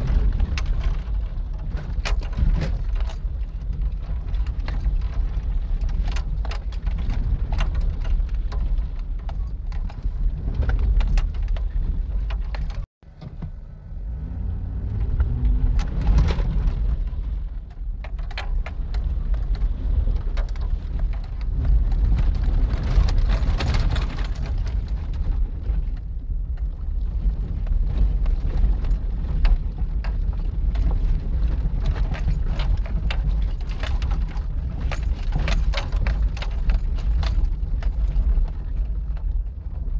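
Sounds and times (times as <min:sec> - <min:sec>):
rattling and clicking in cab: 0:00.0 - 0:13.7, 0:14.8 - 0:39.9
engine and tyre rumble: 0:00.0 - 0:39.9.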